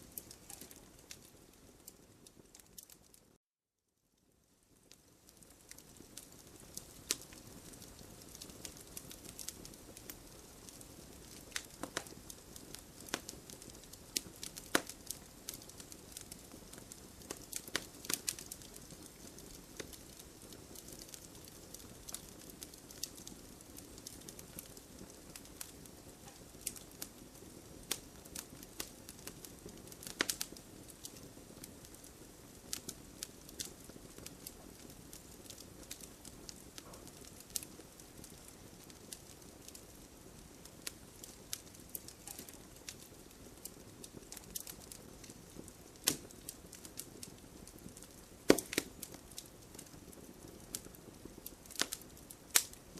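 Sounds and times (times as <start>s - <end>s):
wood fire crackling and popping: 0.0s - 3.4s, 4.2s - 52.9s
fire hissing: 5.4s - 52.8s.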